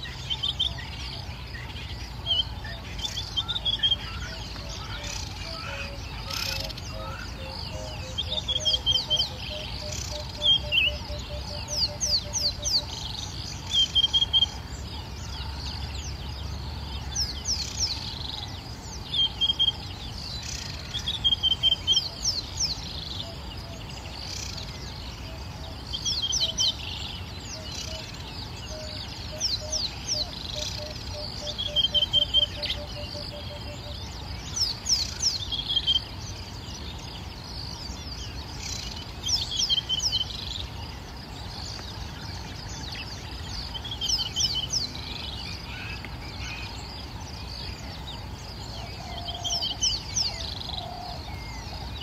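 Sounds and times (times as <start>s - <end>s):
birds calling: 0.0s - 52.0s.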